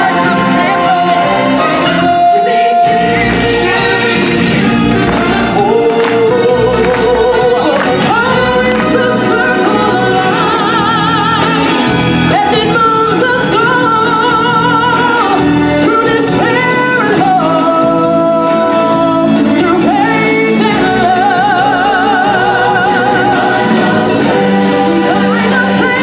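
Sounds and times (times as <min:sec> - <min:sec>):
band backing: 0:00.0 - 0:26.0
person singing long notes: 0:00.0 - 0:26.0.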